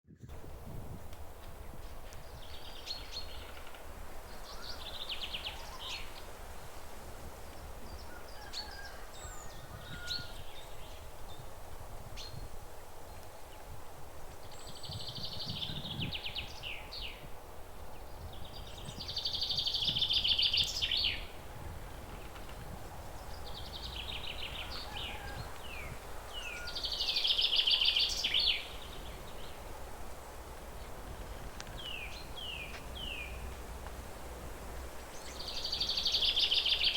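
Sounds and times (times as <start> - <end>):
faint outdoor rumble: 0.3 - 36.9.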